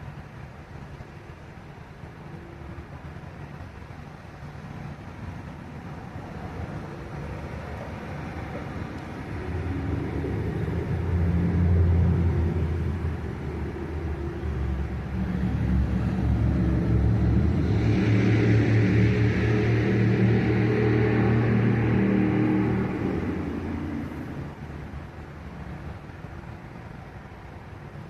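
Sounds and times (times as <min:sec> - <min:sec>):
large vehicle engine rumbling: 0:00.0 - 0:28.0.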